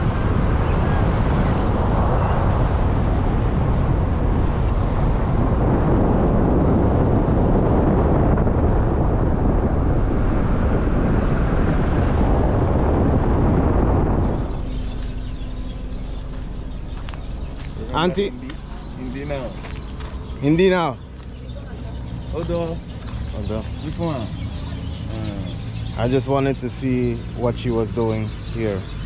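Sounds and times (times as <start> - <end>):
vehicle road rumble and wind: 0.0 - 29.0.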